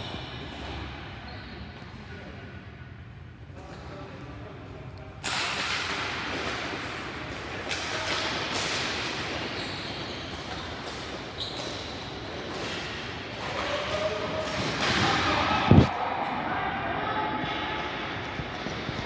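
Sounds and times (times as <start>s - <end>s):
indoor rink noise: 0.0s - 19.0s.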